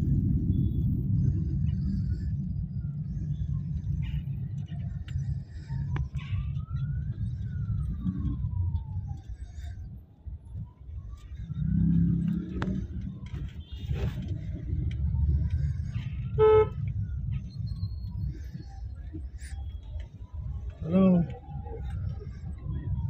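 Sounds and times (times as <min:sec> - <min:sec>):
faint siren wailing: 0:00.0 - 0:23.0
traffic and engine rumble: 0:00.0 - 0:23.0.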